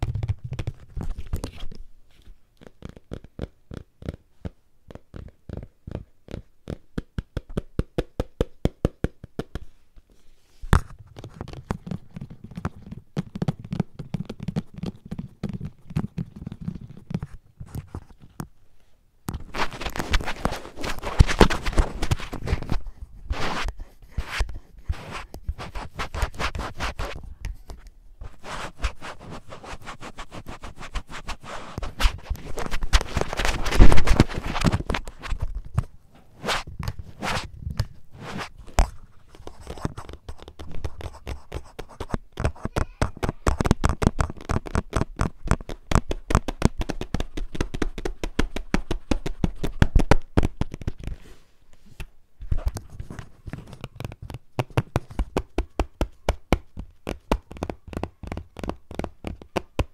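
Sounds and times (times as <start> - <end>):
rubbing on microphone: 0.0 - 6.8, 9.6 - 18.4, 19.3 - 59.9
fingertips tapping on microphone: 0.0 - 10.1, 10.7 - 18.5, 19.3 - 51.2, 52.0 - 59.9.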